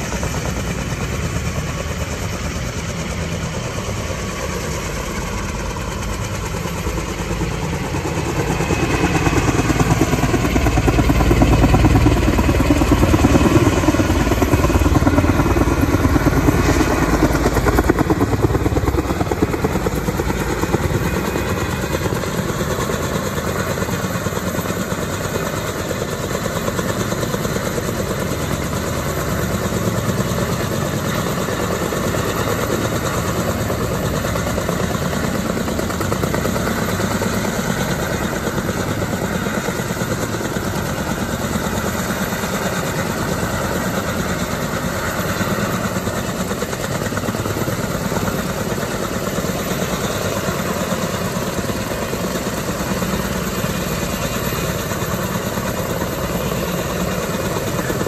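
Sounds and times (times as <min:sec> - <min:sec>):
helicopter engine noise: 0:00.0 - 0:58.0
helicopter rotor chop: 0:00.0 - 0:58.0.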